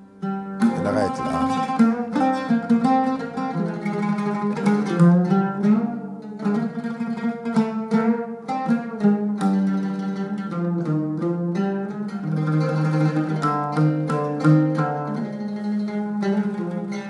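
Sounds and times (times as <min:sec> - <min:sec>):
oud playing plucked notes: 0:00.0 - 0:17.0.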